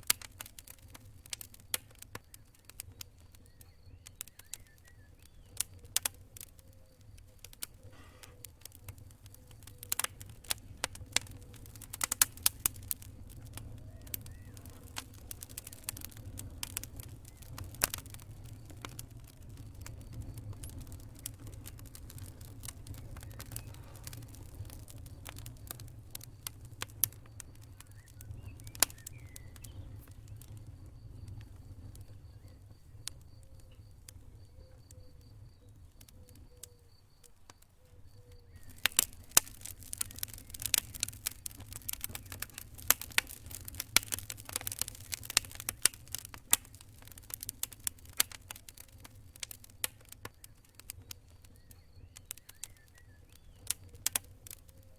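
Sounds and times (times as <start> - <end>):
campfire crackling and snapping: 0.0 - 54.9
low rumble of fire: 0.0 - 54.9.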